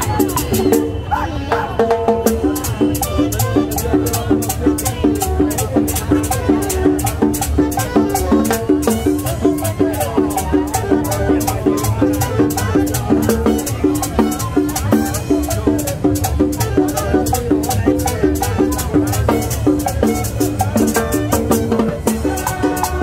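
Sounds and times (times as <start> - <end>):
congas and drums: 0.0 - 23.0
metal shaker beat: 0.0 - 23.0.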